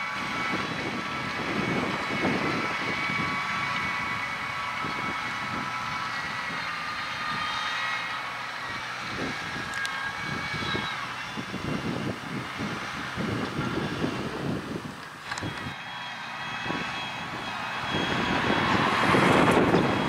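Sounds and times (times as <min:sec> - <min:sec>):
high whine: 0:00.0 - 0:20.0
tractor engine under load: 0:00.0 - 0:20.0.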